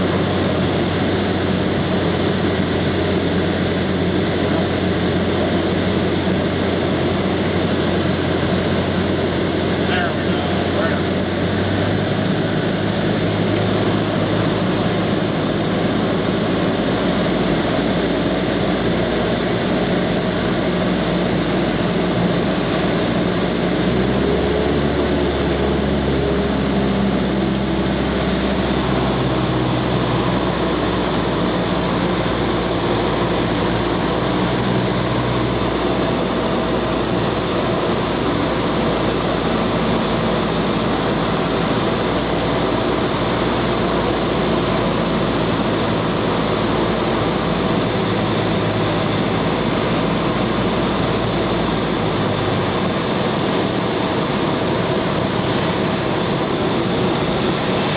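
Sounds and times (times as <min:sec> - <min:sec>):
propeller plane engine droning: 0:00.0 - 0:57.9.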